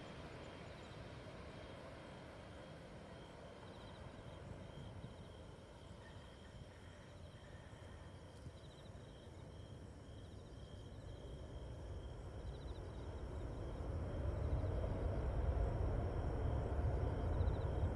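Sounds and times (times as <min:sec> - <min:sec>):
insects chirping: 0:00.0 - 0:17.9
jet airliner engine rumble: 0:00.0 - 0:17.9.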